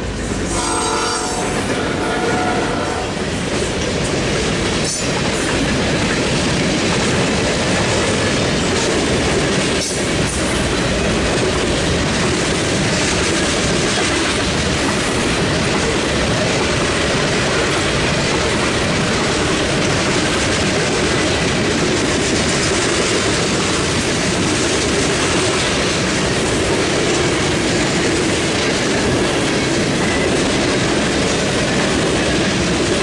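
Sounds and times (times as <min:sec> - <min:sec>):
train wheels rolling on rail: 0:00.0 - 0:33.0.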